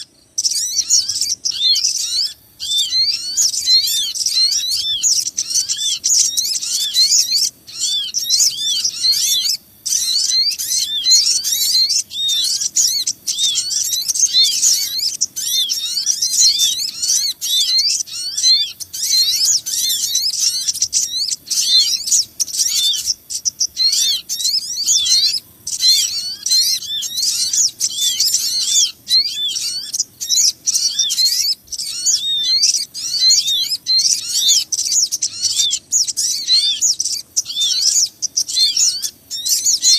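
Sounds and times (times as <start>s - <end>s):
small birds chirping and chattering: 0.0s - 39.9s.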